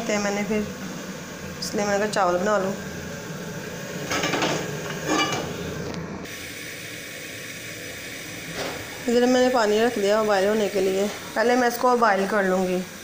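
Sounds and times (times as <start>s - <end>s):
gas burner hissing: 0.0s - 13.0s.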